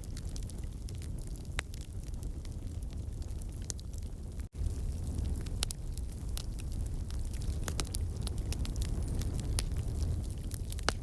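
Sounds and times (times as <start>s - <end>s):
firewood crackling and popping: 0.0s - 11.0s.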